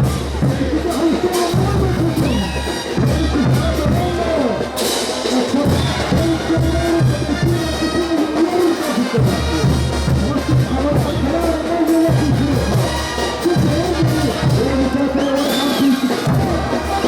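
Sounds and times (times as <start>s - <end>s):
brass band playing: 0.0s - 17.0s
drums: 0.0s - 17.0s.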